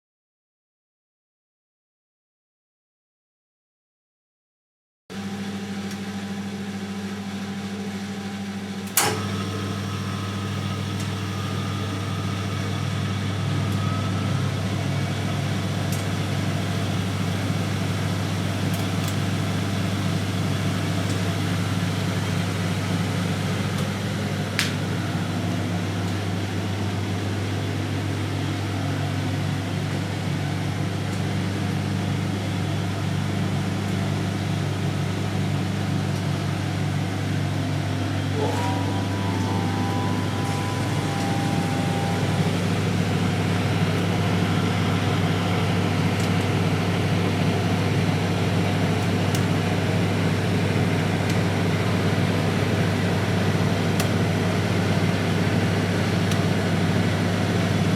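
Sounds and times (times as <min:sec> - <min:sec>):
washing machine motor hum: 0:05.2 - 0:57.9.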